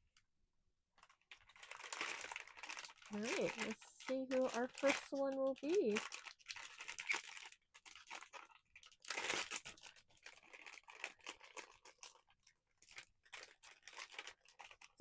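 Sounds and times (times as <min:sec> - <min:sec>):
cardboard packaging rustling: 0:01.0 - 0:15.0.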